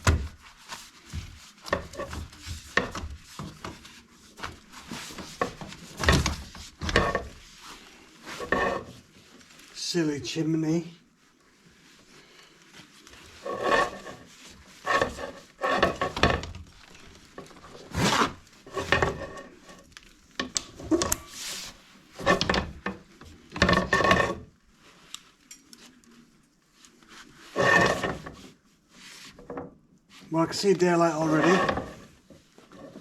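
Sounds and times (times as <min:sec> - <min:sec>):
brush scraping inside chimney flue: 0:00.0 - 0:10.4, 0:11.2 - 0:25.1, 0:26.8 - 0:29.4, 0:30.1 - 0:33.0.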